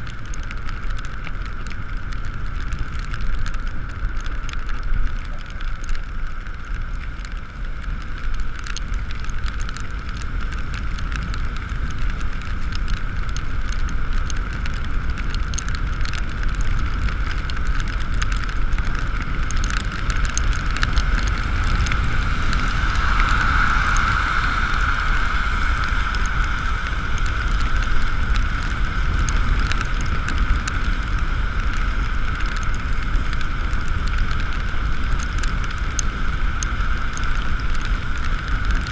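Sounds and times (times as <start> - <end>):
rain and wet tyres hiss: 0.0 - 38.9
wind rumble on microphone: 0.0 - 38.9.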